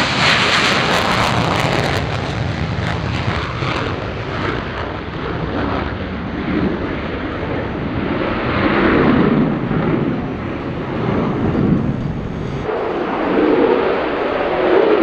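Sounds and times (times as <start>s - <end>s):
jet engine roaring: 0.0s - 15.0s.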